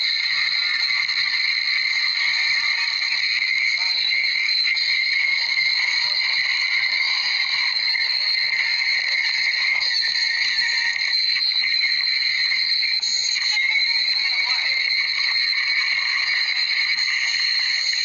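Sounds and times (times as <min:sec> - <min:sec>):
chorus of calling animals: 0:00.0 - 0:18.0.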